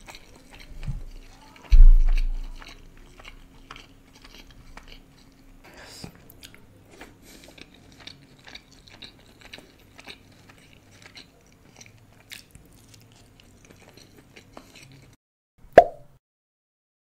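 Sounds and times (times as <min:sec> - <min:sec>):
person chewing food: 0:00.0 - 0:15.2.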